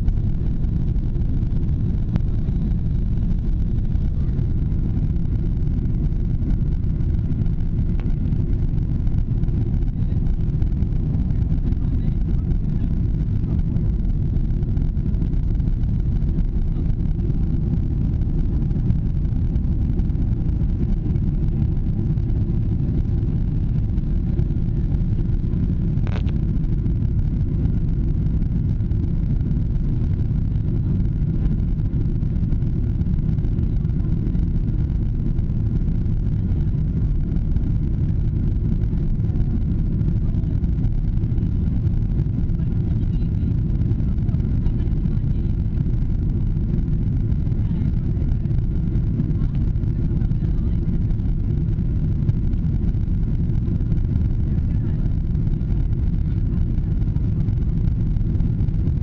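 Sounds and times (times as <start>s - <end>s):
jet airliner cabin engine noise: 0.0s - 59.0s.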